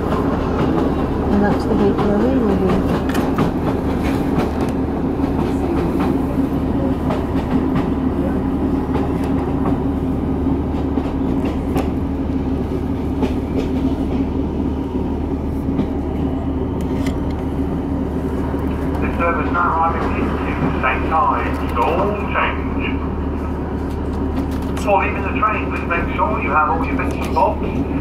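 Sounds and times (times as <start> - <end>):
diesel engine drone: 0.0 - 28.0
wheels rumbling on rail: 0.0 - 28.0.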